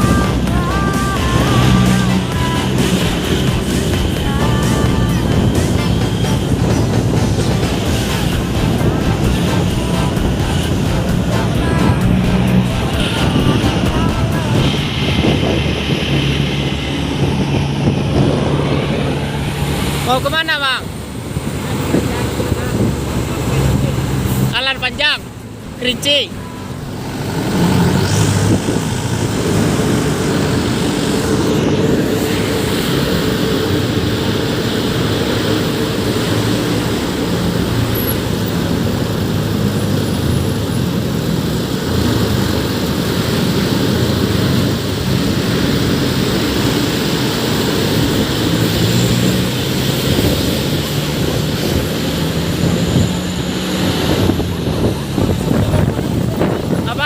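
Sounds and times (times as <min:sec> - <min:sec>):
road and wind noise: 0:00.0 - 0:57.0
vehicle engine running: 0:00.0 - 0:57.0.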